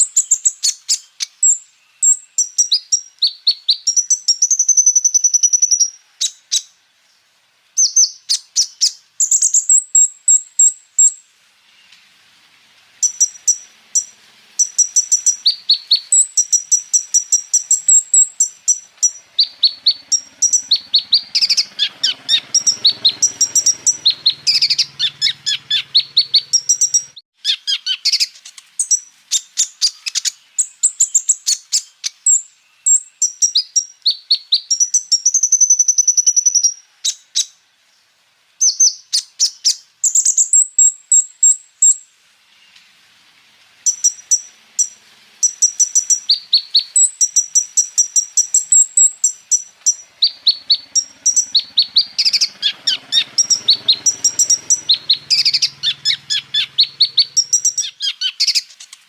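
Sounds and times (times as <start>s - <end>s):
bird chirps and trills: 0.0s - 6.8s, 7.8s - 12.1s, 12.9s - 37.6s, 38.6s - 42.9s, 43.8s - 59.0s.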